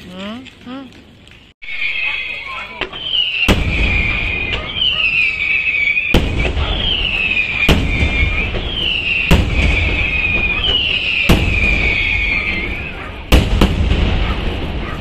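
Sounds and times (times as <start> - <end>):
crackle and hiss of fountains: 0.0 - 12.8
falling firework whistle: 1.6 - 15.0
firework bangs: 1.7 - 15.0.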